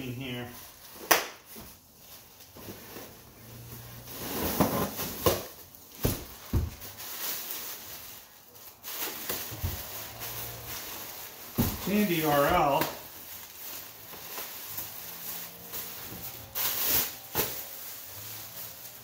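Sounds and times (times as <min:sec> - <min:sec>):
bubble wrap rustling: 0:00.0 - 0:19.0.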